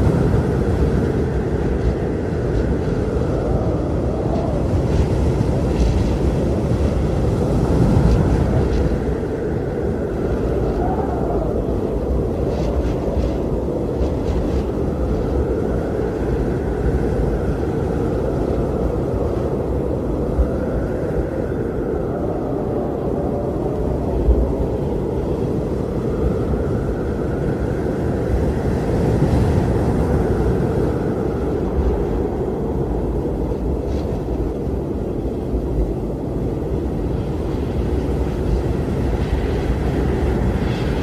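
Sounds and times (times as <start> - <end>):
faint wind howl: 0.0 - 41.0
strong blizzard wind rumbling: 0.0 - 41.0.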